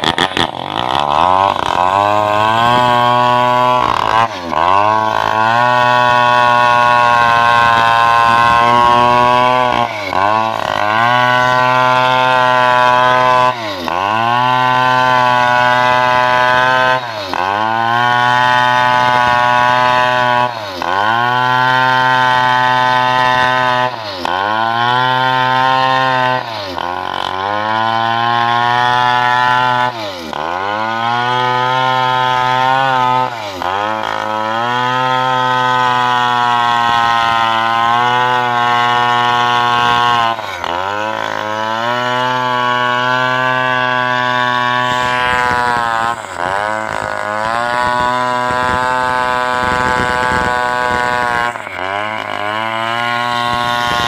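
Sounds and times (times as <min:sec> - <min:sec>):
chainsaw cutting into log: 0:00.0 - 0:54.0.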